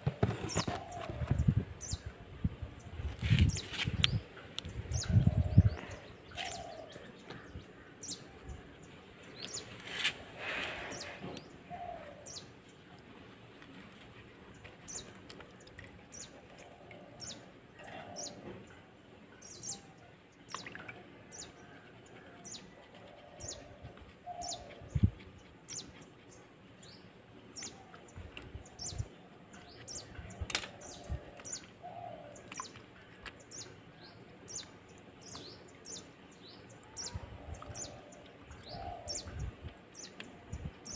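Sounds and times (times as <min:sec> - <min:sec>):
small birds chirping: 0:03.2 - 0:18.8, 0:19.4 - 0:40.9.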